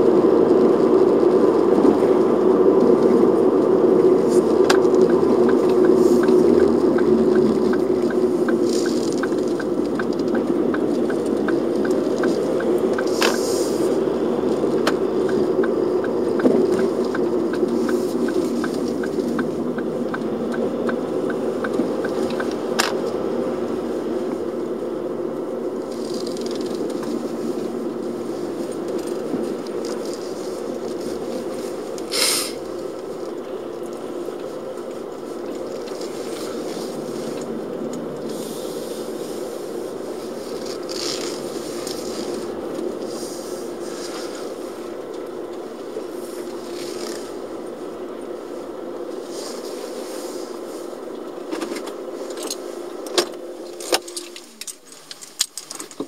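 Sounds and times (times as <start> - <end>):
car engine and tyre drone: 0.0 - 56.0
turn signal ticking: 0.1 - 49.3.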